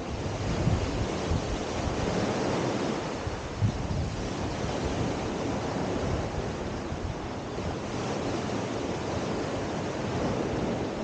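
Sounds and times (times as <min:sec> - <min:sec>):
small waves breaking on beach: 0:00.0 - 0:11.0.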